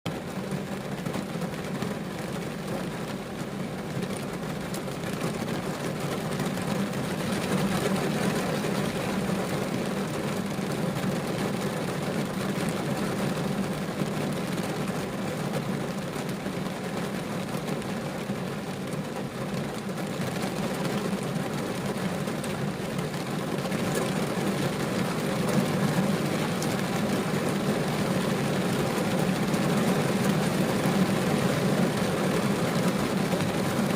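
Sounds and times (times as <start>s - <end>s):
rain on car roof: 0.1s - 33.9s.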